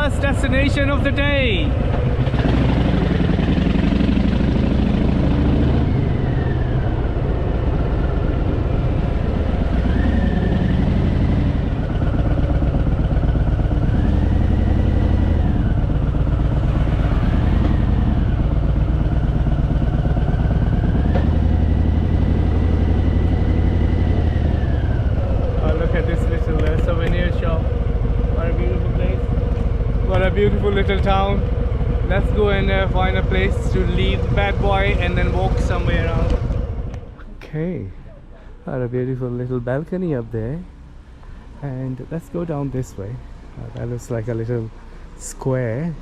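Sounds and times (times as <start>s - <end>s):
motorcycle engine revving: 0.0s - 38.6s.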